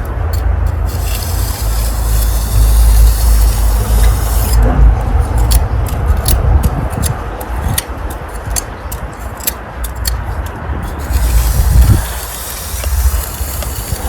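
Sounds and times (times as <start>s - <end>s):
steady low rumble: 0.0s - 14.0s
trowel scraping brick: 0.0s - 14.0s.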